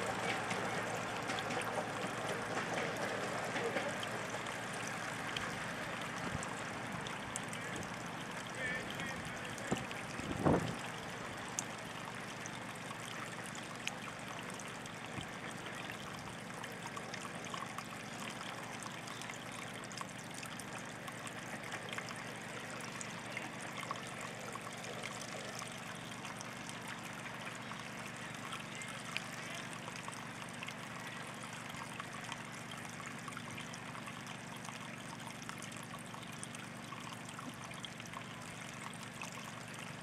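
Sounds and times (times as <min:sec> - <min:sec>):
water trickling in stream: 0:00.0 - 0:40.0.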